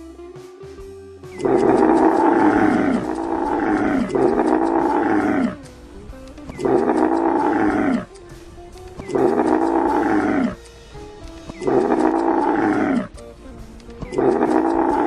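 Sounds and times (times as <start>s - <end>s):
animal calling: 1.4s - 10.7s, 11.4s - 13.3s, 13.9s - 15.0s.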